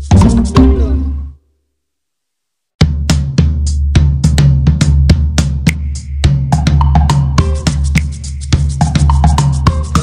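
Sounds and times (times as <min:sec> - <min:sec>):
background music with drums: 0:00.0 - 0:01.3, 0:02.8 - 0:10.0
drum-heavy music: 0:00.0 - 0:01.3, 0:02.8 - 0:10.0.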